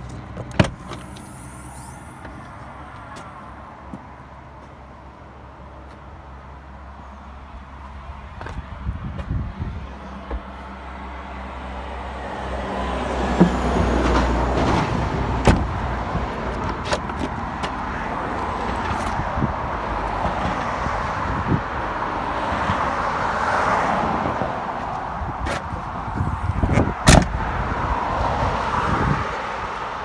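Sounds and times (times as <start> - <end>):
motor vehicle noise: 0.0 - 30.0.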